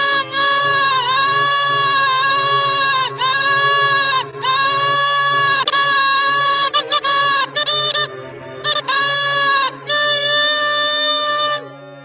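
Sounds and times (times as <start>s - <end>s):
cartoon honk held notes: 0.4s - 11.7s.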